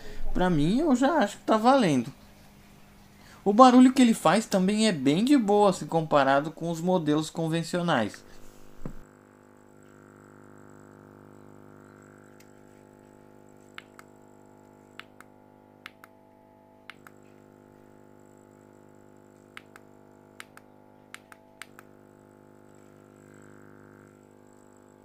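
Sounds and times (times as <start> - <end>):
air pump humming: 0.0 - 25.0.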